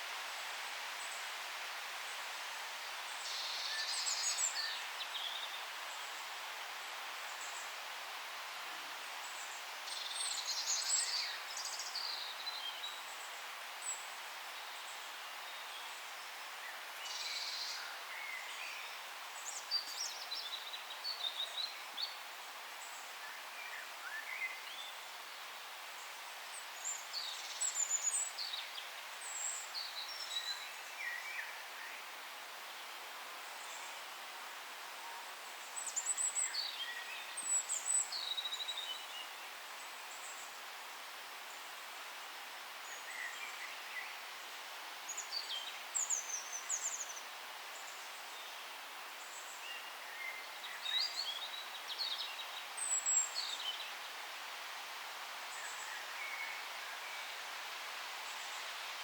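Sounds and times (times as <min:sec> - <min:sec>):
soft background hiss: 0:00.0 - 0:59.0.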